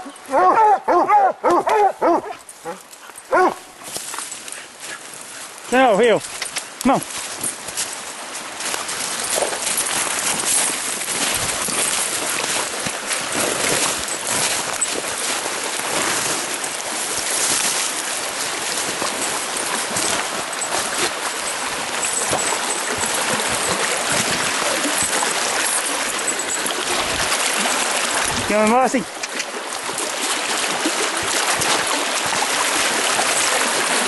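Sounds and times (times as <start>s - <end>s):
water rushing over rocks: 2.8s - 34.0s.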